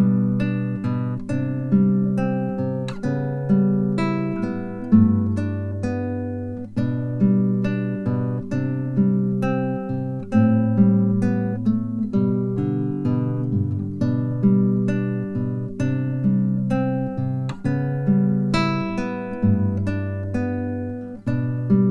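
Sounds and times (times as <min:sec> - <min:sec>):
acoustic guitar playing: 0:00.0 - 0:21.9.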